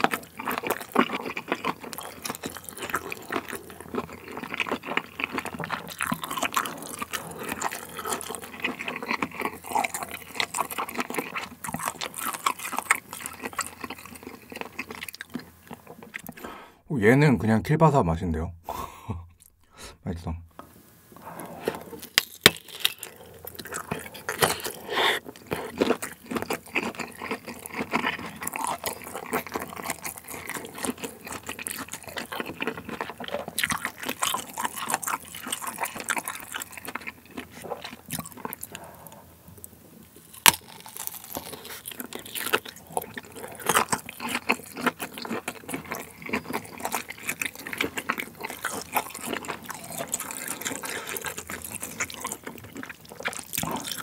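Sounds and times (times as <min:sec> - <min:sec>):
biting and chewing sausage: 0:00.0 - 0:16.6, 0:21.2 - 0:54.0.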